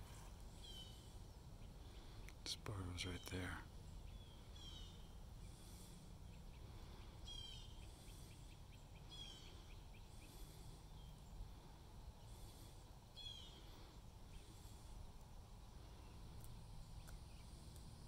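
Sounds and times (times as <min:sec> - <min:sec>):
faint bird calls: 0:00.0 - 0:18.0
low steady rumble: 0:00.0 - 0:18.0.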